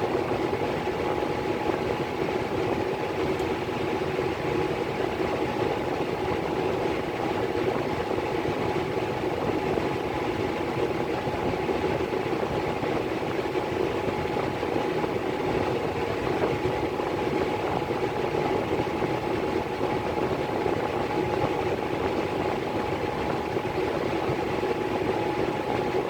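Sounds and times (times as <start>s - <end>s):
furnace blower whirring: 0.0s - 26.0s.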